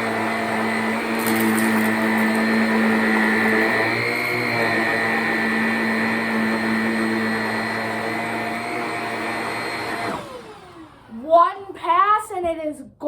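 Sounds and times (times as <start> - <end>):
vacuum cleaner running: 0.0 - 11.5.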